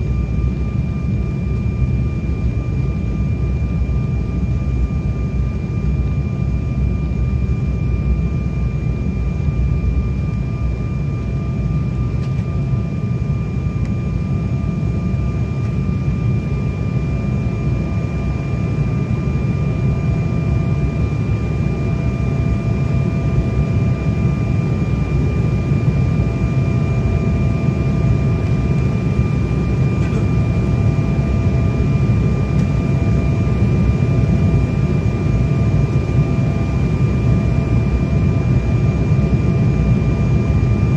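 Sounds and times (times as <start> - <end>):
engine and airflow drone: 0.0 - 40.9
thin steady whine: 0.0 - 40.9.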